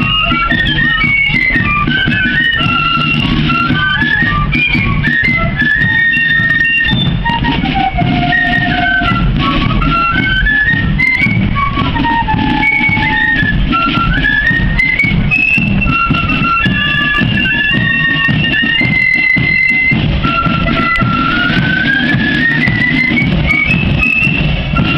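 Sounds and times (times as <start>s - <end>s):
drum beat: 0.0s - 24.9s
flutes playing melody: 0.0s - 24.9s.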